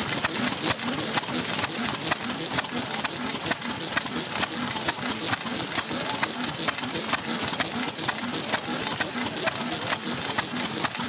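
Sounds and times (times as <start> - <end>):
constant noisy hum: 0.0 - 11.0
machine clicking steadily: 0.0 - 11.0.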